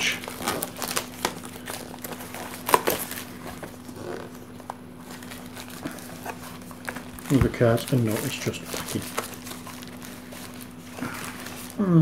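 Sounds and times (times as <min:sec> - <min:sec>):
plastic wrap snapping: 0:00.0 - 0:11.8
plastic wrap crinkling: 0:00.0 - 0:12.0.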